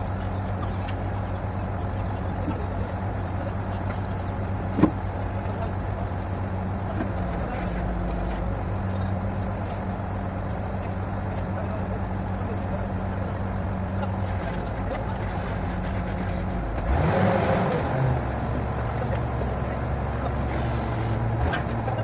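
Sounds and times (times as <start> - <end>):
drilling rig engine humming: 0.0 - 22.0.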